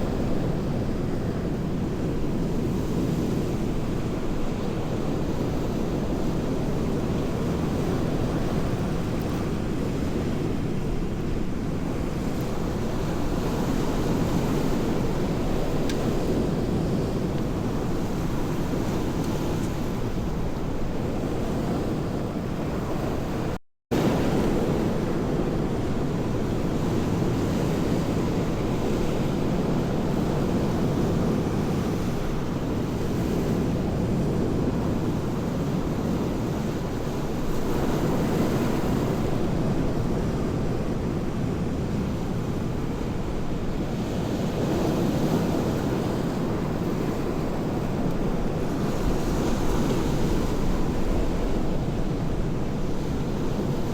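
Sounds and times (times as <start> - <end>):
sea surf washing ashore: 0.0 - 53.9.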